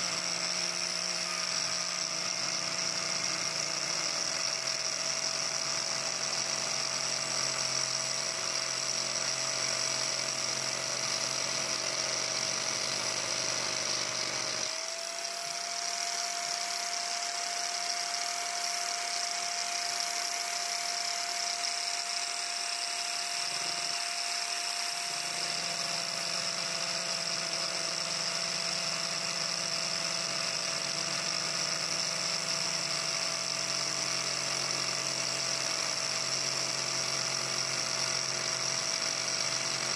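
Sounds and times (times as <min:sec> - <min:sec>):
angle grinder carving wood: 0:00.0 - 0:39.9.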